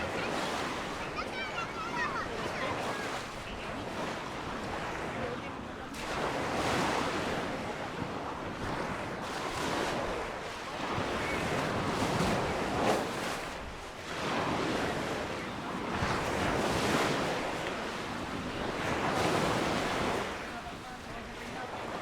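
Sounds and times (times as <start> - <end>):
wind buffeting microphone: 0.0 - 21.8
sea waves breaking on beach: 0.0 - 22.0.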